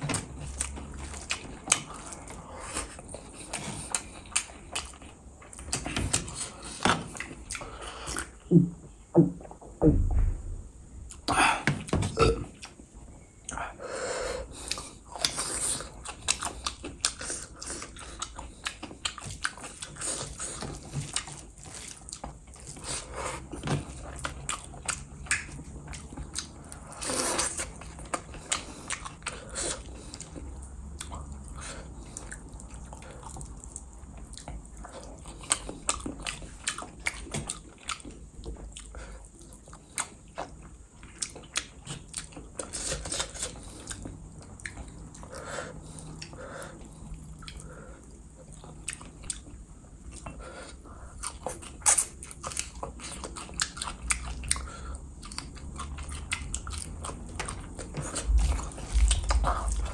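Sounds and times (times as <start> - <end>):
wet chewing with mouth smacks: 0.1 - 8.5, 14.6 - 59.9.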